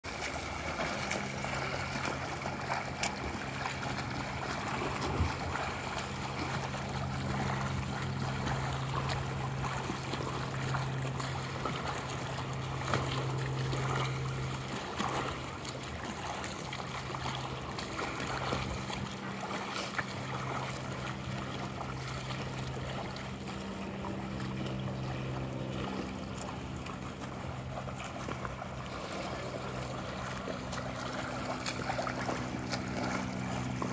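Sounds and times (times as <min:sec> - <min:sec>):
swimmer splashing: 0:00.0 - 0:33.9
steady low hum: 0:00.1 - 0:33.9.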